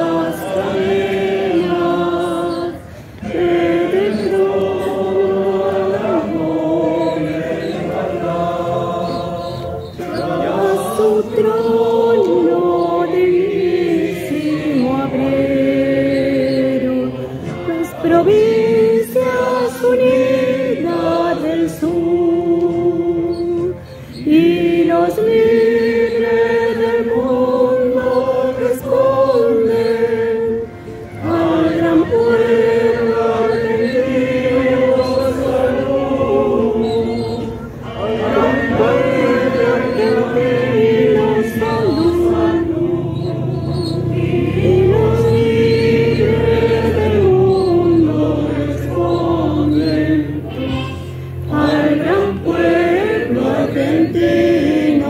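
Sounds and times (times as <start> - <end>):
crowd singing in unison: 0.0 - 55.0.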